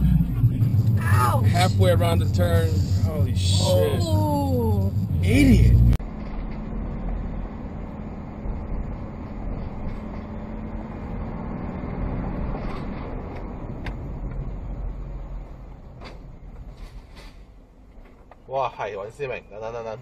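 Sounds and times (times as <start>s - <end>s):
vehicle engine hum and road noise: 0.0s - 20.0s.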